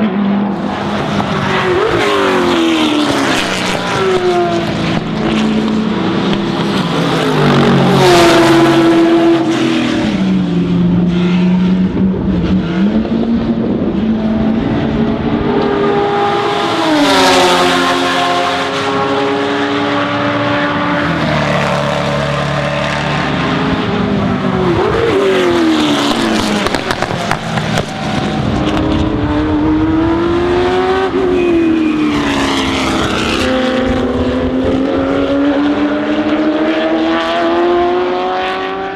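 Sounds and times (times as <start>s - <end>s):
race car engines: 0.0s - 38.9s.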